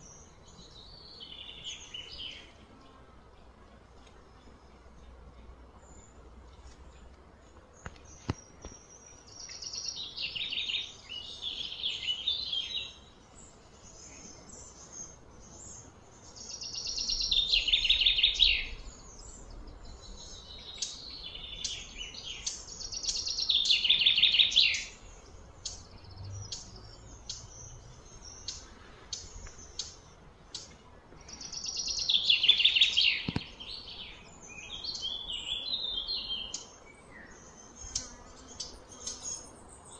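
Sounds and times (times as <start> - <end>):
bird singing trilled notes: 7.8 - 39.9.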